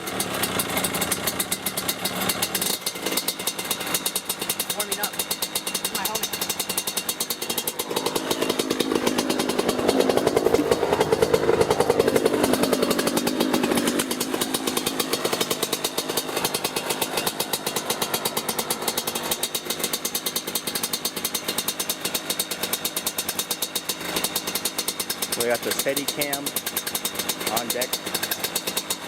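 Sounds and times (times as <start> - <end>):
dirt bike engine idling: 0.0 - 29.0.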